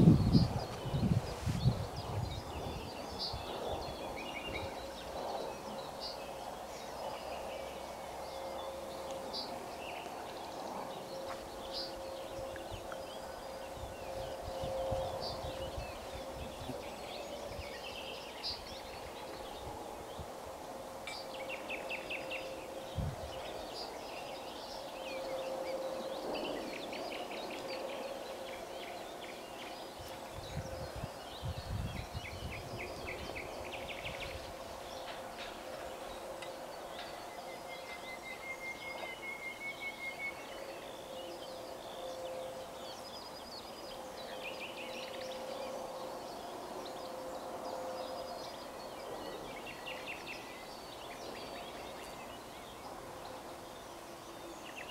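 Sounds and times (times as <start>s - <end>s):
faint constant hum: 0.0s - 54.9s.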